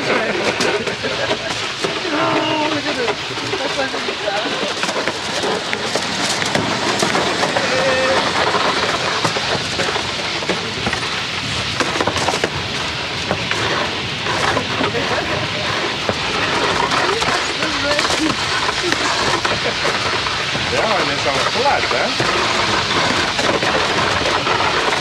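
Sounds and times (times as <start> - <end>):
toboggan scraping on asphalt: 0.0 - 25.0.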